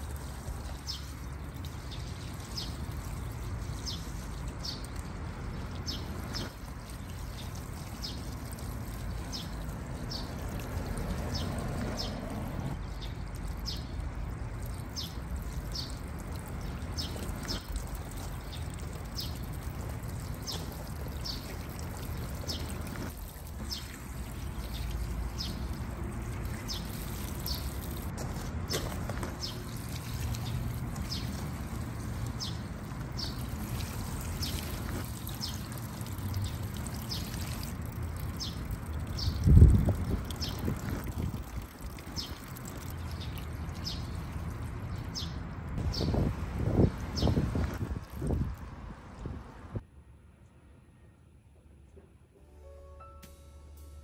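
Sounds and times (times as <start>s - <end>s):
water pouring onto soil: 0.0s - 49.5s.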